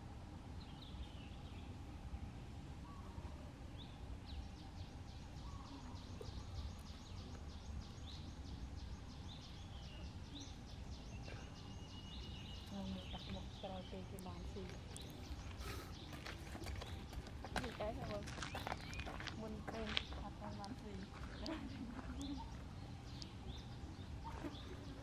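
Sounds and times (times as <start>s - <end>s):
small birds chirping: 0.5s - 25.0s.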